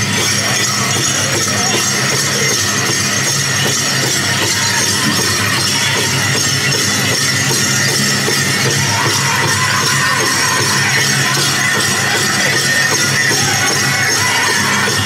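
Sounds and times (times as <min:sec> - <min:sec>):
metallic jingling of regalia: 0:00.0 - 0:15.0
powwow music: 0:00.0 - 0:15.0.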